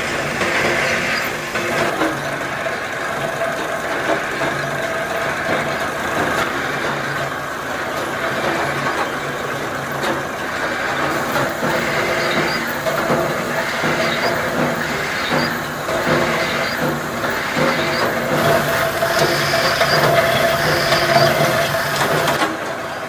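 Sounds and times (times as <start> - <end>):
factory machinery humming: 0.0 - 23.0
faint machine clicks: 0.0 - 23.0.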